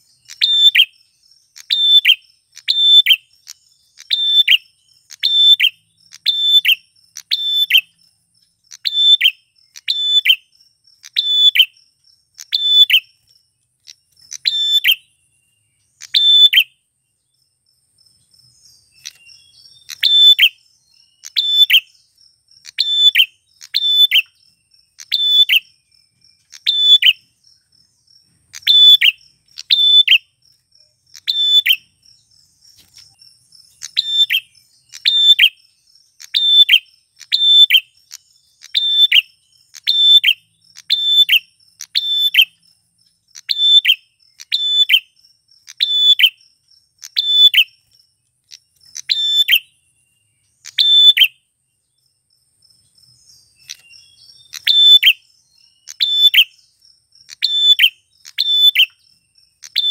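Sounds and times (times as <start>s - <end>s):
bird calling shrill notes: 0.0s - 8.0s, 8.7s - 16.9s, 18.5s - 27.4s, 28.4s - 30.4s, 31.0s - 32.1s, 32.8s - 42.6s, 43.3s - 46.4s, 47.0s - 47.9s, 48.5s - 51.5s, 53.3s - 59.9s.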